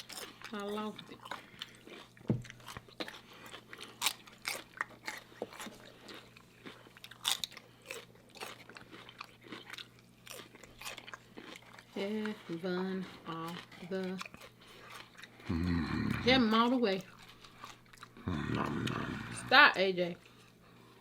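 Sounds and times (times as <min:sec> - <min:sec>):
biting and chewing: 0:00.0 - 0:21.0.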